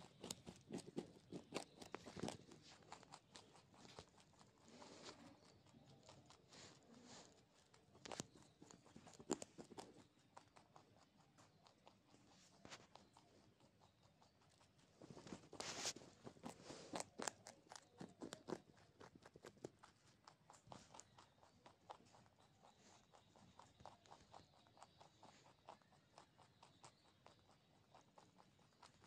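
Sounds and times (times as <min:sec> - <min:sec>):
rabbit crunching a carrot: 0:00.0 - 0:29.0.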